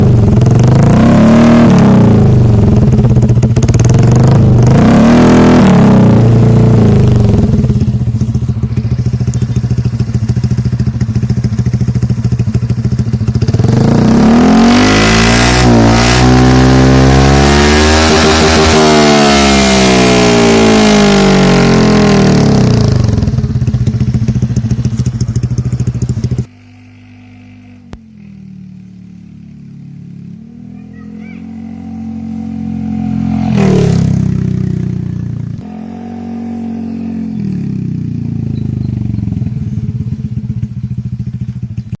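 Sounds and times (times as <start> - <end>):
scooter engine revving: 0.0 - 42.0.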